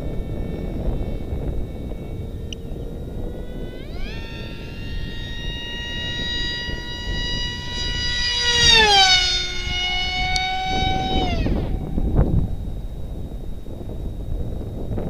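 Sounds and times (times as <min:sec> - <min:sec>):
electric model plane motor whining: 0:00.0 - 0:15.0.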